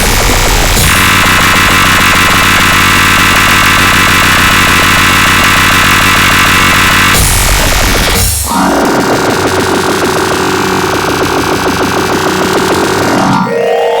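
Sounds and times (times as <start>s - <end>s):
distorted electronic ringtone drone: 0.0s - 14.0s.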